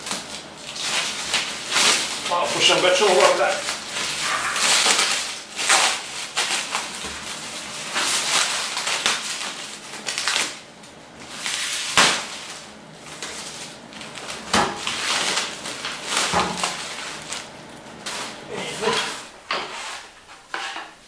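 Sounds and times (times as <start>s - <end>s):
plastic wrap tearing and crinkling: 0.0s - 19.4s.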